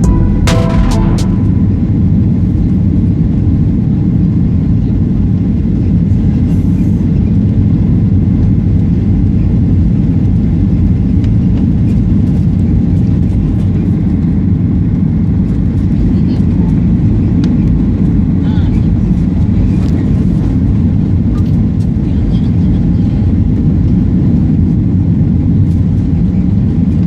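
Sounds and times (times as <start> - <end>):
airliner cabin engine rumble: 1.6 - 27.0.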